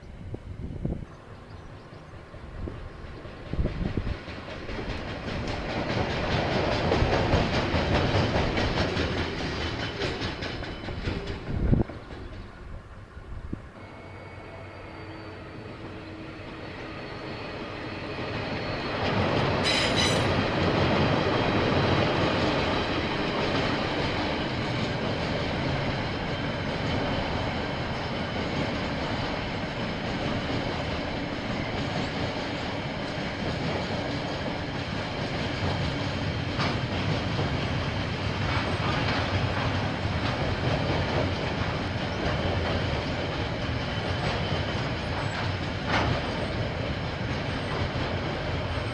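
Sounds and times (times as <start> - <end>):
train rumbling past: 0.0 - 48.9
wheels clickety-clack: 2.9 - 12.8, 18.9 - 48.9.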